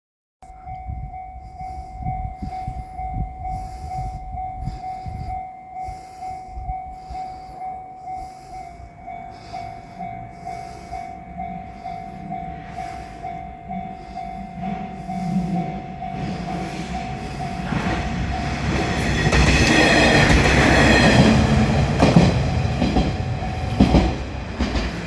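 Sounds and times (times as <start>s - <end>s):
level-crossing alarm bell: 0.4s - 25.0s
diesel railcar engine approaching: 0.5s - 25.0s.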